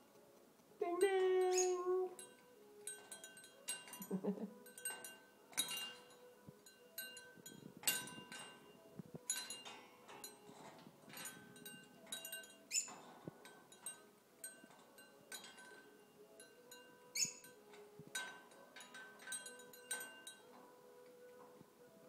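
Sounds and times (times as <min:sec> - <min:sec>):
bell on parrot toy ringing: 0:01.0 - 0:20.6.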